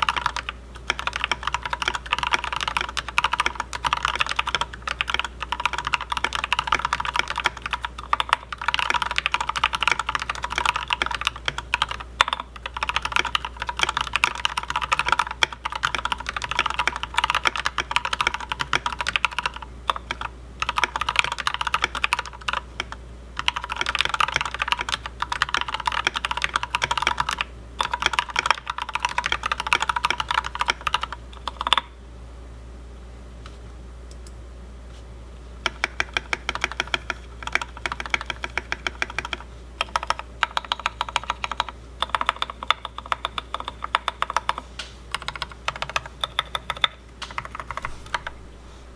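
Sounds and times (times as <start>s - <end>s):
mechanical keyboard typing: 0.0s - 31.9s, 35.6s - 48.9s.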